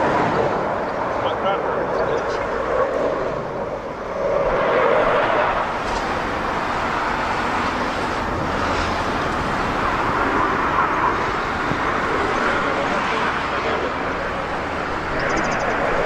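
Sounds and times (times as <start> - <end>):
jet engine rushing: 0.0 - 16.0.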